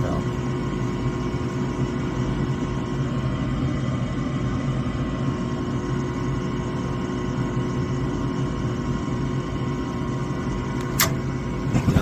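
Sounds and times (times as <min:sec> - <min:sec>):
furnace motor humming: 0:00.0 - 0:12.0.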